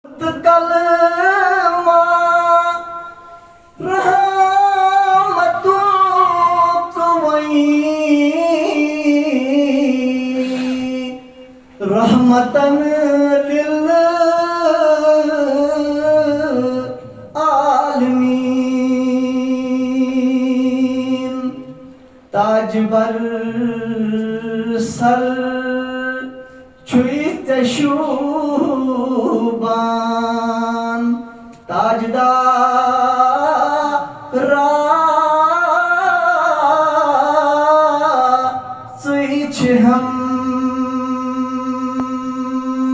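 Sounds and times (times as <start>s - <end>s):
person singing unaccompanied: 0.0s - 42.9s.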